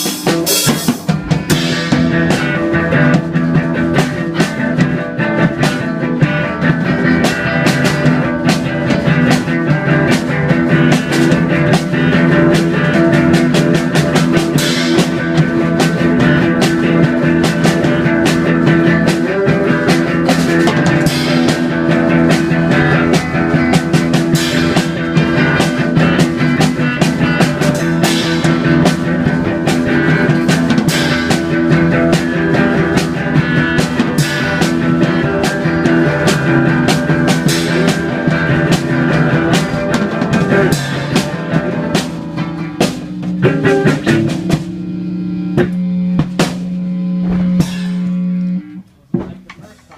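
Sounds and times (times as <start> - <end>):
loud rock music: 0.0 - 49.3.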